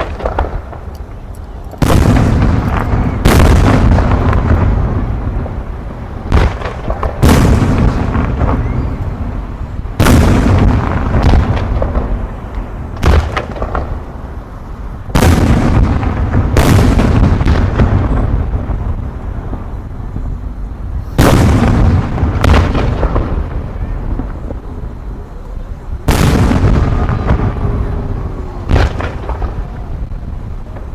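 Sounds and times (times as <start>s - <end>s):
firework shells booming: 0.0s - 30.9s.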